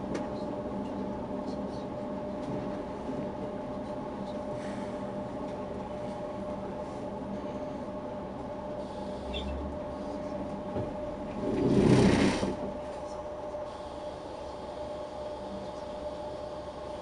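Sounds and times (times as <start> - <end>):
train hum and running noise: 0.0 - 17.0.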